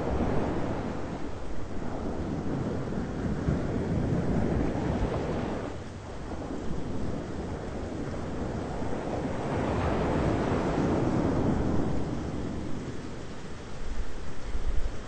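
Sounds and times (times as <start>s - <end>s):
thunderstorm rumble: 0.0s - 15.0s.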